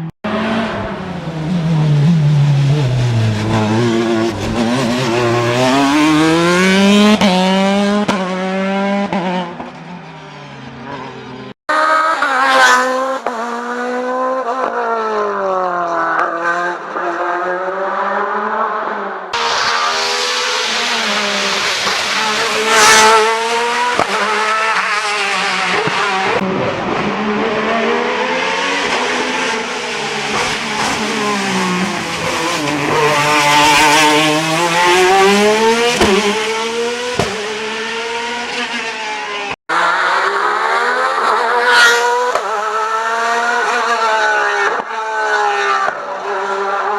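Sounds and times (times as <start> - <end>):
racing car engines revving: 0.0 - 46.9.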